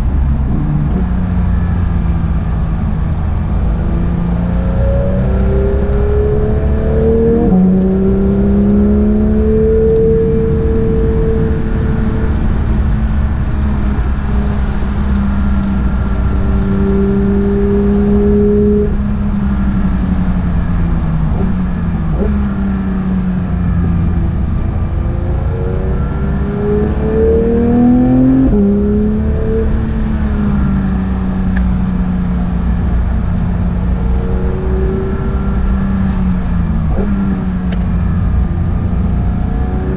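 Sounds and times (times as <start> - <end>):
race car engine revving: 0.0 - 39.9
tyre and road noise: 0.0 - 39.9.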